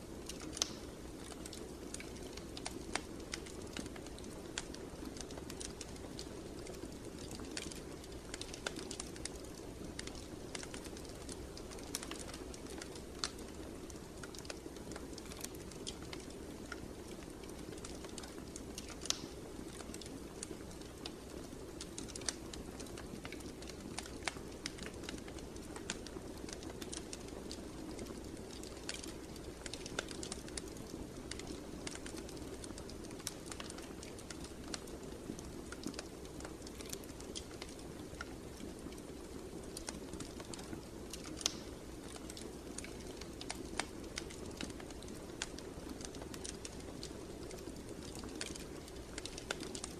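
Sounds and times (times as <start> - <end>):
fireplace flame rumble: 0.0 - 49.9
wood fire crackling and popping: 0.0 - 49.9.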